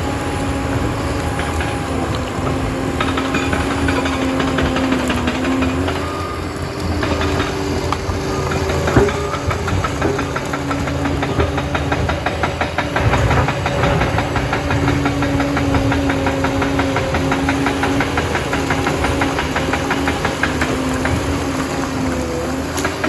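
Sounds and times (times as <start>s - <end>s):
crawler dozer engine running: 0.0s - 23.0s.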